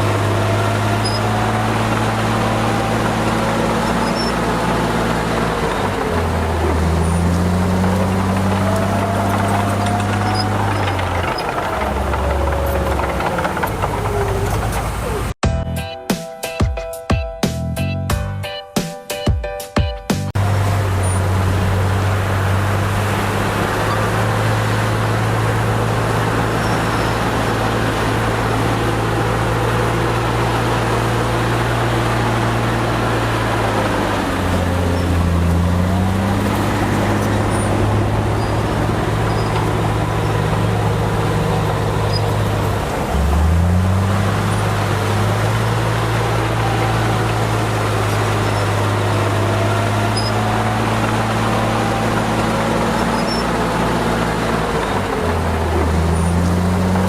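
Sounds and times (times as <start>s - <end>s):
diesel engine running: 0.0s - 15.8s, 20.3s - 57.0s.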